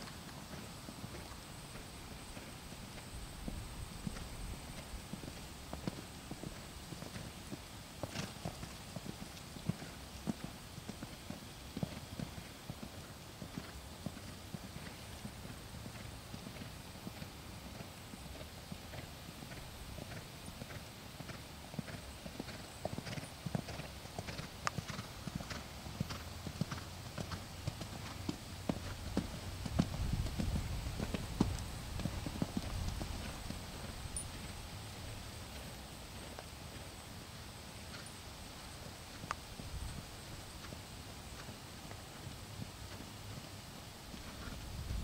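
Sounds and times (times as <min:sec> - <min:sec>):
horse hoofbeats on sand: 0:00.0 - 0:37.0.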